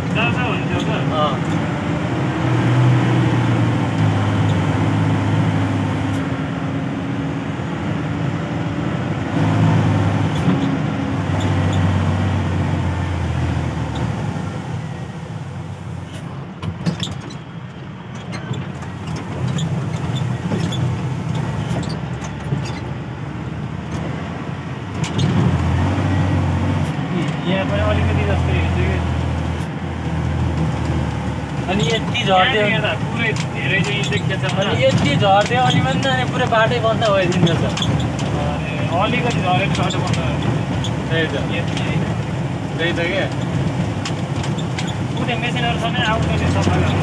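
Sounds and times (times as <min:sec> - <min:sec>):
tyres on gravel road: 0:00.0 - 0:47.0
vehicle engine drone: 0:00.0 - 0:47.0.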